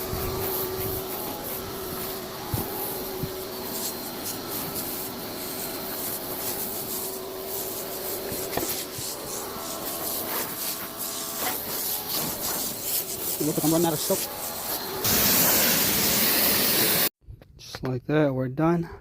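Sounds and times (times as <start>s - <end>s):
pressure washer humming: 0.0s - 17.1s
water spray hissing and spattering: 0.0s - 17.1s.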